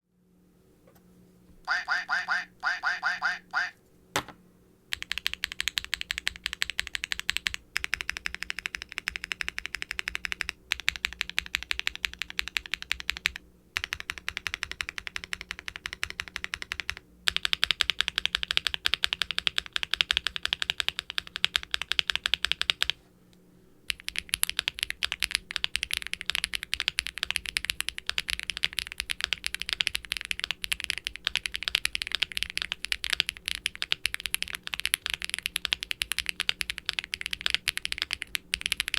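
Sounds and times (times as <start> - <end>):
fast mechanical keyboard typing: 4.9 - 23.0, 23.9 - 38.9.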